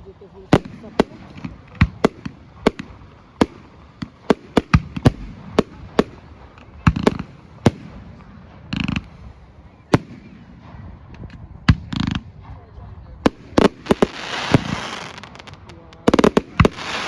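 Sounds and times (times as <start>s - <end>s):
firework shells bursting: 0.5s - 12.4s, 13.3s - 17.0s.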